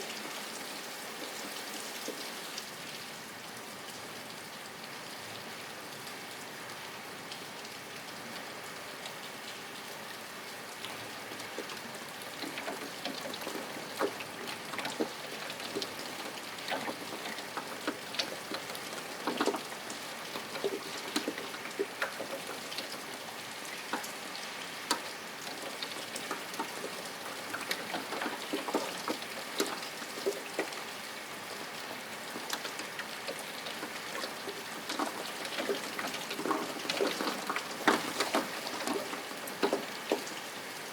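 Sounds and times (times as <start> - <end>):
steady rain: 0.0 - 40.9
raindrops tapping on a surface: 0.1 - 3.0, 10.7 - 40.9.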